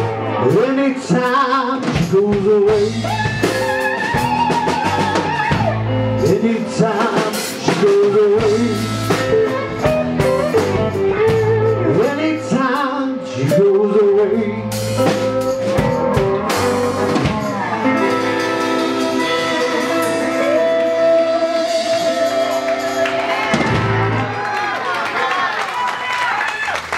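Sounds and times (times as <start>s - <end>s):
drum kit: 0.0s - 24.7s
bass guitar: 0.0s - 24.8s
electric guitars: 0.0s - 25.5s
lead guitar bending notes: 2.7s - 24.4s.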